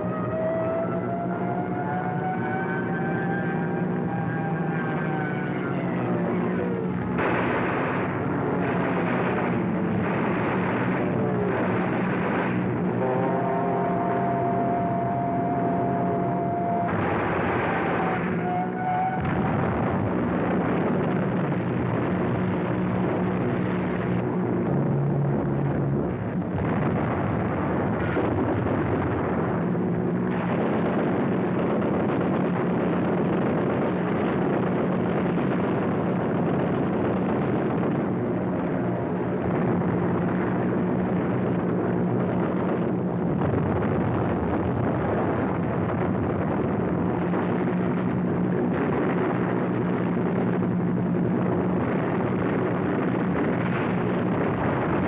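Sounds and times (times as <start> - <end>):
aircraft engines droning: 0.0 - 55.0
rumble of explosions and fire: 0.0 - 55.0.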